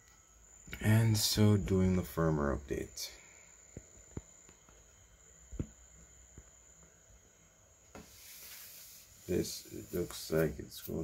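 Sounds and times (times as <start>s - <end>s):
soft hiss: 0.0s - 11.0s.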